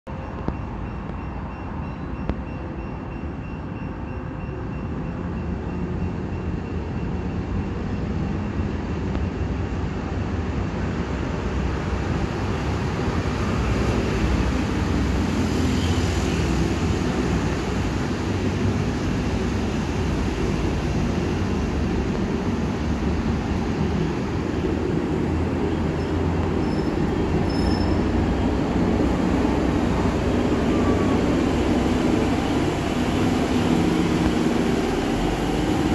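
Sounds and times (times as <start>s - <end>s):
tram rumbling: 0.1s - 35.9s.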